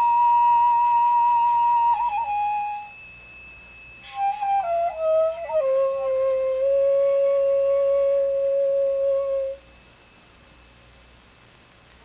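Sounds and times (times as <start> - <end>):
slow solo melody: 0.0 - 11.0.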